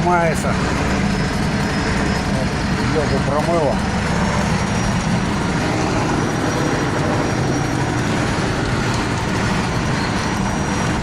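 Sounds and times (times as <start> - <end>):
vehicle engine running under load: 0.0 - 11.0.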